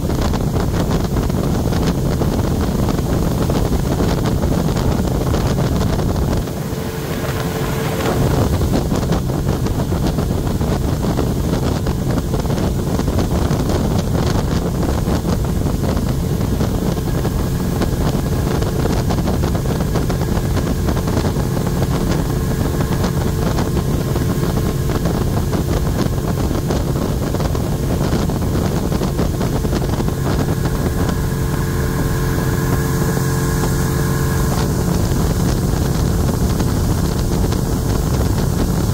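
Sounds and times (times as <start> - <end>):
boat motor running: 0.0 - 38.9
water rushing past: 0.0 - 38.9
wind buffeting microphone: 0.0 - 38.9.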